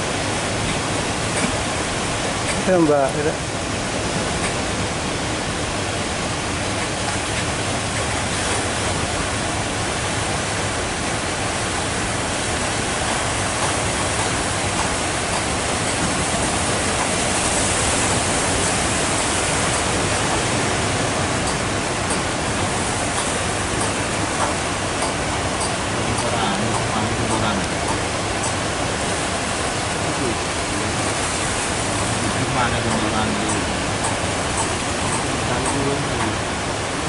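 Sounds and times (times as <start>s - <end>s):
heavy surf waves breaking: 0.0s - 37.0s.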